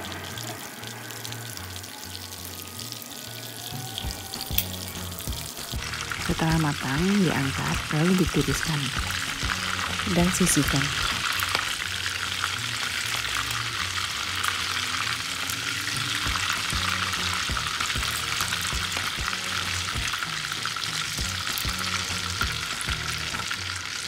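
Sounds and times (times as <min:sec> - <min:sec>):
prawns sizzling in hot oil: 0:00.0 - 0:24.0.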